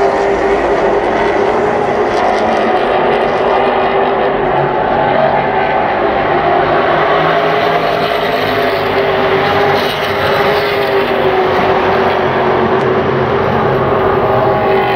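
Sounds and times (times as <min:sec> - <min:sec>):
race car engines droning: 0:00.0 - 0:14.9.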